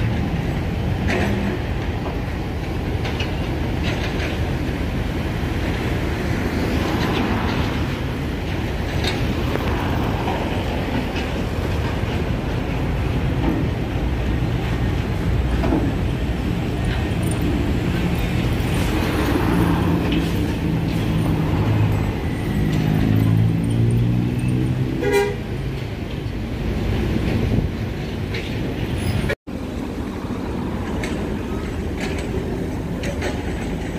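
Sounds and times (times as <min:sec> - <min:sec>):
heavy vehicle engines droning: 0:00.0 - 0:33.9.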